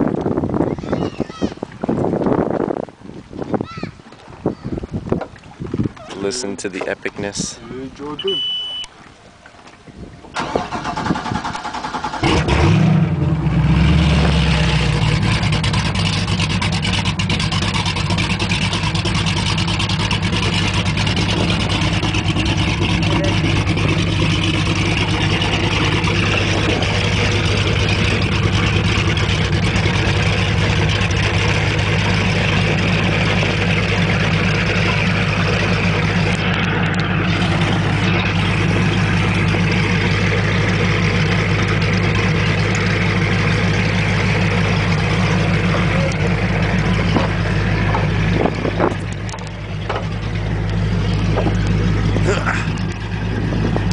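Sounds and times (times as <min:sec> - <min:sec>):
boat engine starting and idling: 0:00.0 - 0:53.9.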